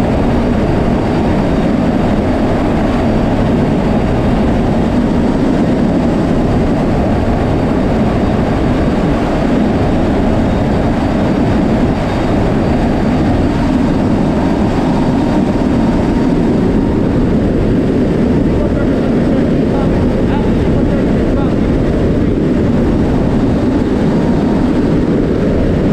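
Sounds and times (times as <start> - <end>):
turboprop engines droning: 0.0 - 25.9
wind rushing: 0.0 - 25.9.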